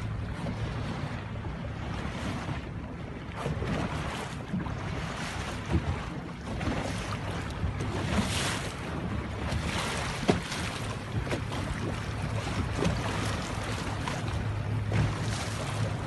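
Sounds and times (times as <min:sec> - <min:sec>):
choppy sea water: 0:00.0 - 0:16.0.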